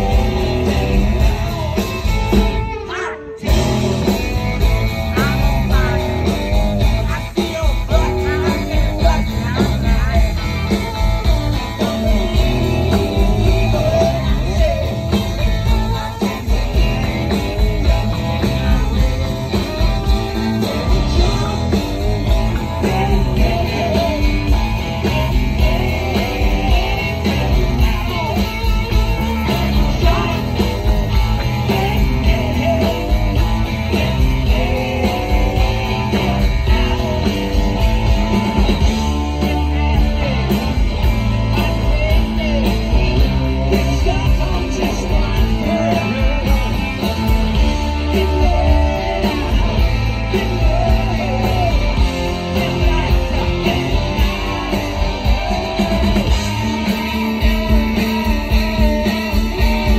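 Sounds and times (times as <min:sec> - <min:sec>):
drum kit: 0:00.0 - 0:59.9
electric bass: 0:00.0 - 0:59.9
electric guitars: 0:00.0 - 0:59.9.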